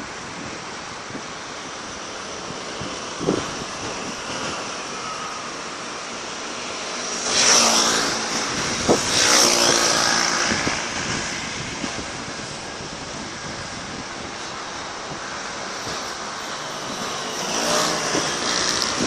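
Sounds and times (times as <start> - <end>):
wind: 0.0 - 19.0
fireworks hissing and crackling: 0.1 - 19.0.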